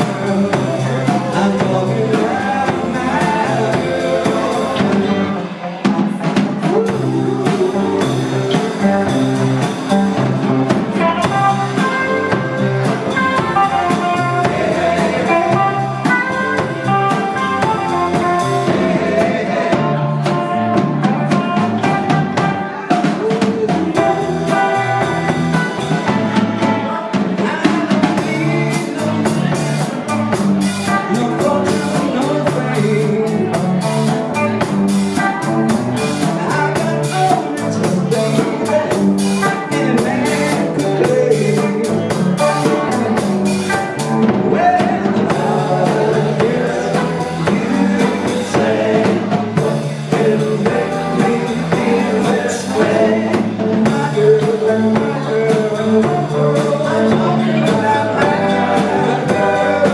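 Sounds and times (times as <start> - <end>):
drum rimshots: 0.0 - 59.9
rock and roll band playing: 0.0 - 59.9.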